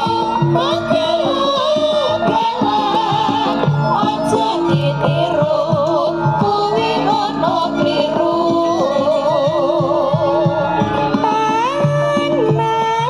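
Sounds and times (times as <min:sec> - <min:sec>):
woman singing wavering melody: 0:00.0 - 0:13.0.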